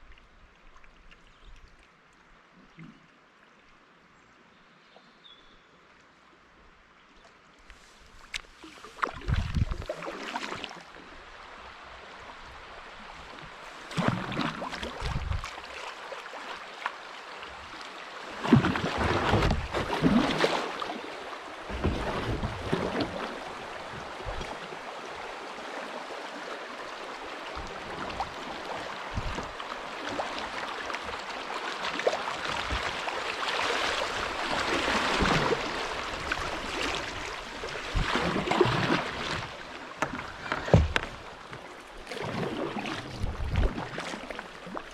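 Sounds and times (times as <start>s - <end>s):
river water splashing around kayak: 7.2s - 44.9s.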